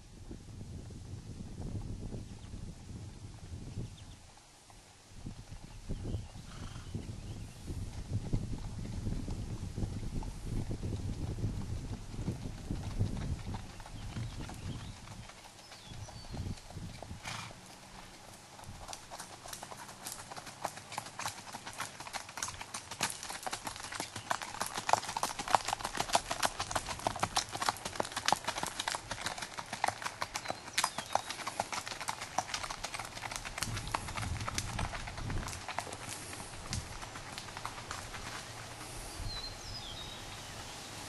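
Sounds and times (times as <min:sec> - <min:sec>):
hoofbeats on gravel: 0:08.0 - 0:41.0.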